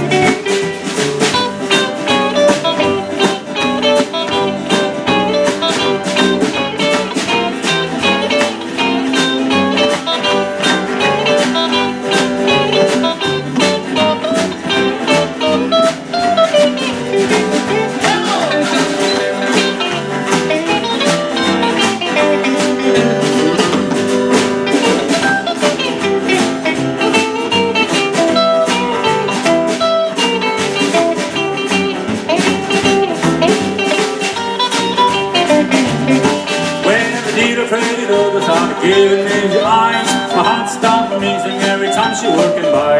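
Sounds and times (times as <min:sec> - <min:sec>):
drums: 0:00.0 - 0:42.9
electric and acoustic guitars: 0:00.0 - 0:42.9
upright double bass: 0:00.0 - 0:42.9.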